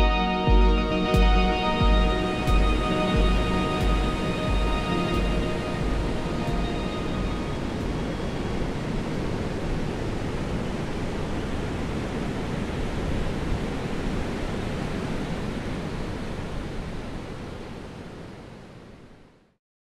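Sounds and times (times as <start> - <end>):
ocean waves washing: 0.0 - 18.8.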